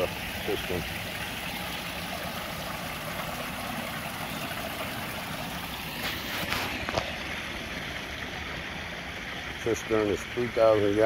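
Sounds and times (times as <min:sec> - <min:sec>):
waterfall splashing into pond: 0:00.0 - 0:11.0.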